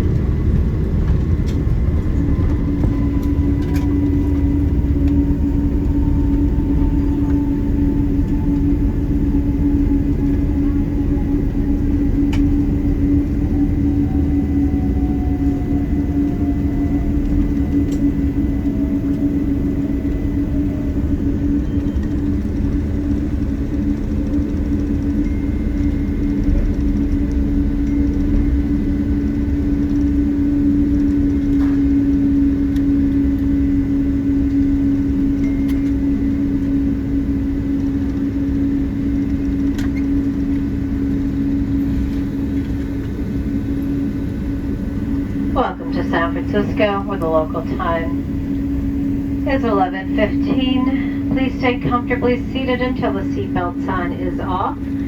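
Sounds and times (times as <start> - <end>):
airplane cabin engine hum: 0.0 - 55.0.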